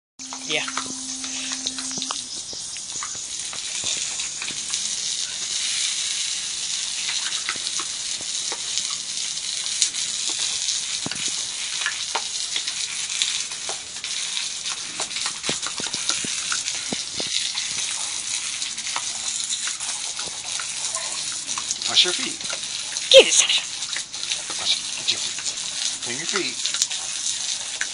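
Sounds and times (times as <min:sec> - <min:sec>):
hose water spraying on concrete: 0:00.2 - 0:27.9.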